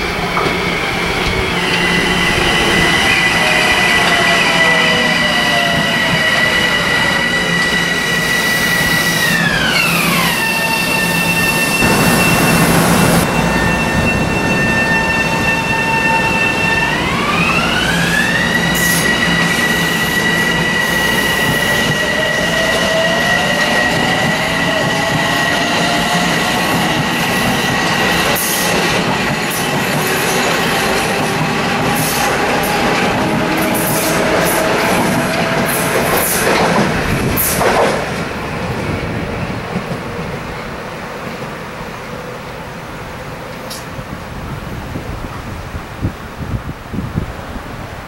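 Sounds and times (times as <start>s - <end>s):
train wheels whining and squealing: 0.0s - 45.0s.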